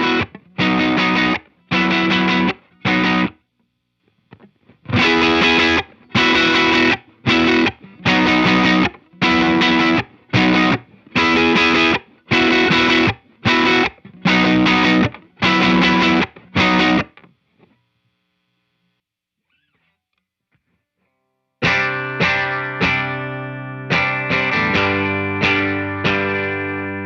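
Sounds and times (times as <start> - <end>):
overdriven electric guitar riff: 0.0 - 3.4, 4.3 - 17.3, 21.6 - 27.0.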